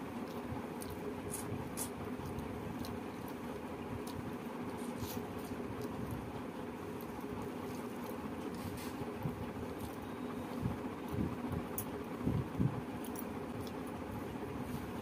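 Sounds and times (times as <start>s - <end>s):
chewing and mouth sounds: 0.0s - 15.0s
fingers squishing rice: 0.0s - 15.0s
steady low hum: 0.0s - 15.0s.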